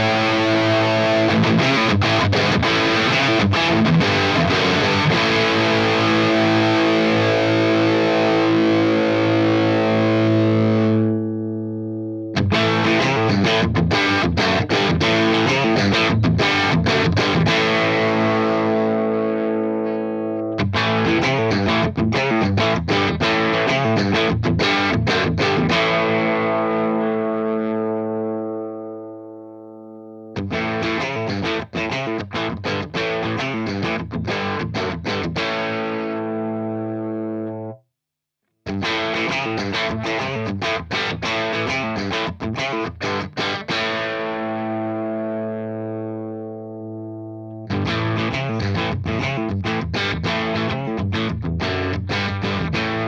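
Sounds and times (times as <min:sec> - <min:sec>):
electric guitar chords: 0:00.0 - 0:37.8, 0:38.7 - 0:53.0.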